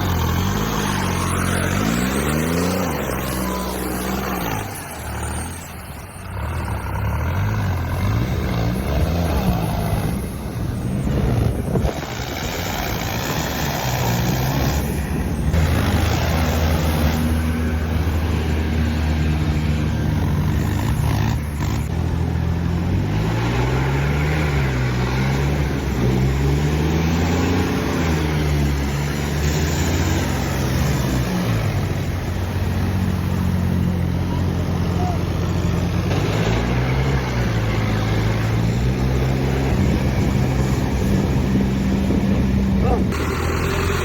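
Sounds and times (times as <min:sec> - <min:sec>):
diesel engine revving: 0:00.0 - 0:44.0
diesel engine steady under load: 0:00.0 - 0:44.0.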